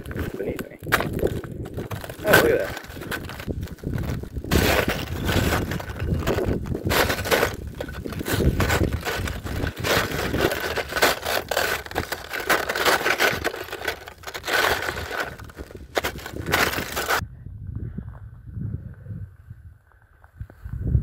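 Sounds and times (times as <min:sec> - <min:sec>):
footsteps crunching on lava rock: 0:00.0 - 0:17.2.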